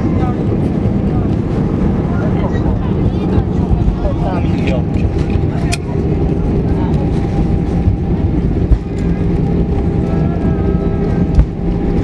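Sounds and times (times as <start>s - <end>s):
airplane cabin rumble: 0.0s - 12.0s
faint engine hum: 0.0s - 12.0s.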